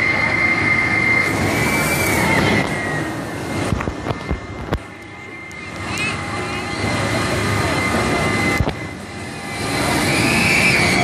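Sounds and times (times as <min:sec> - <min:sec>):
carnival ride whining and rumbling: 0:00.0 - 0:11.0.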